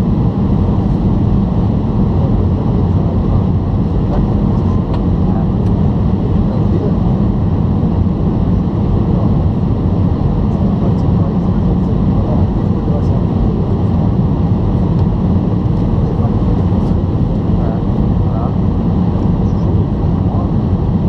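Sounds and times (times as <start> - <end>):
low hum of jet engines: 0.0 - 21.0.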